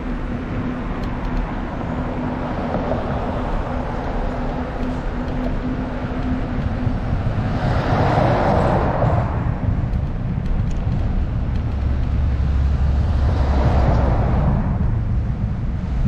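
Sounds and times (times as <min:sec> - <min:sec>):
steady low rumble: 0:00.0 - 0:16.0
vehicle approaching: 0:00.0 - 0:16.0
car passing with whoosh: 0:01.8 - 0:10.2, 0:10.9 - 0:16.0.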